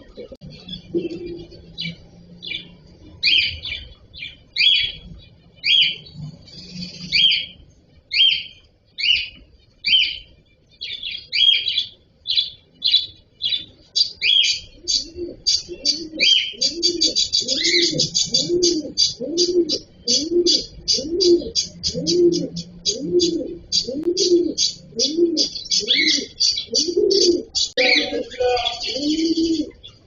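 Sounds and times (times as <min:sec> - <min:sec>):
lower bird calls: 0:00.0 - 0:30.0
cockatiels chirping: 0:00.5 - 0:30.0.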